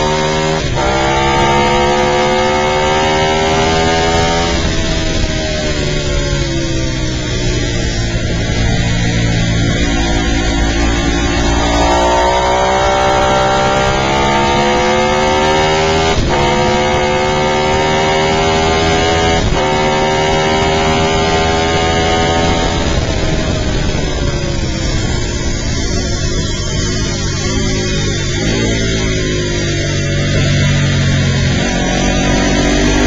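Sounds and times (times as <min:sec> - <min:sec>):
motorcycle engine accelerating: 0:00.0 - 0:33.0
wind rush over microphone: 0:00.0 - 0:33.0.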